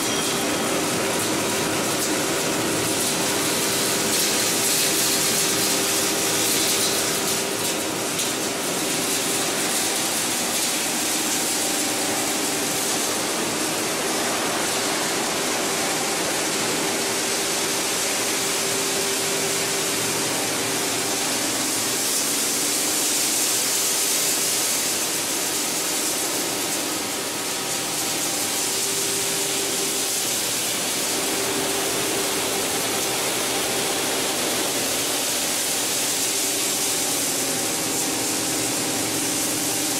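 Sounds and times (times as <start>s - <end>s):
machine noise: 0.0s - 39.9s
rushing water: 0.3s - 39.9s.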